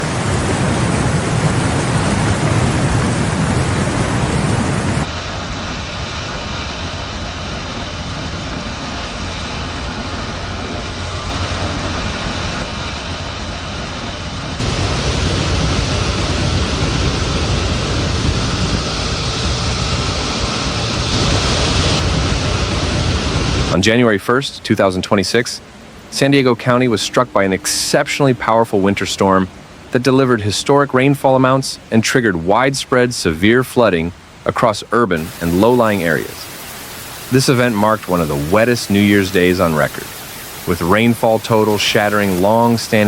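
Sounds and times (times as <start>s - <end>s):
storm and flood roar: 0.0s - 43.0s.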